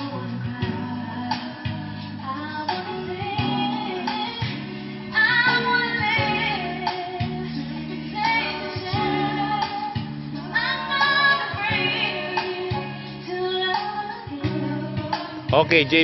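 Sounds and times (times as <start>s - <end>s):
woman singing with vibrato: 0.0s - 15.5s
steady bass line: 0.0s - 16.0s.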